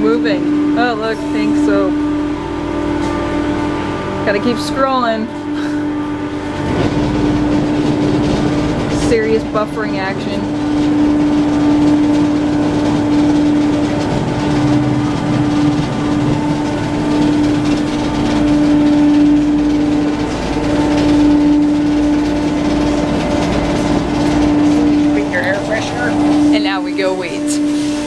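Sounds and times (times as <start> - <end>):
car wash machinery drone: 0.0 - 28.0.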